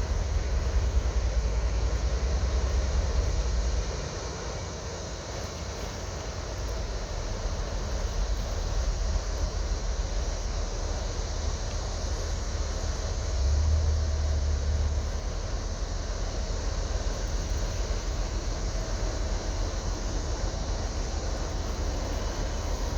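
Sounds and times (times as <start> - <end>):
boat engines rumbling: 0.0 - 22.9.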